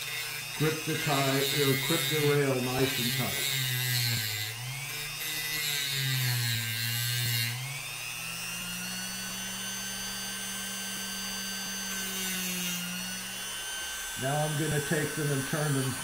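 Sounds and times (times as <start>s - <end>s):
electric grinder grinding metal: 0.0s - 16.0s.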